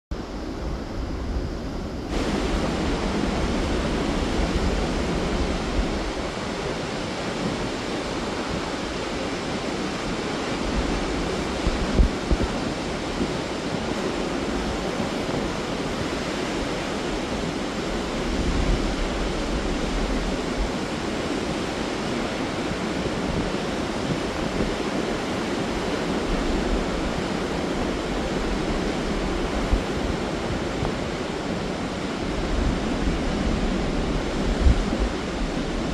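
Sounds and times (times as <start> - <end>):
wind gusts on microphone: 0.1 - 35.9
waterfall rushing: 2.1 - 35.9.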